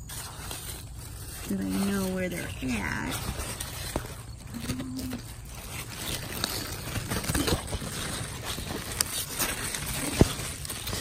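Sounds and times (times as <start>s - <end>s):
leaves rustling against microphone: 0.0s - 11.0s
small crackles: 0.0s - 11.0s.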